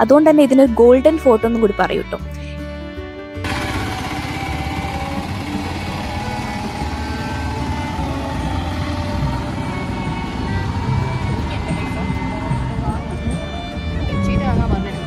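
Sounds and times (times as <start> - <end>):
street bustle: 0.0 - 15.0
vehicle engine running: 0.0 - 15.0.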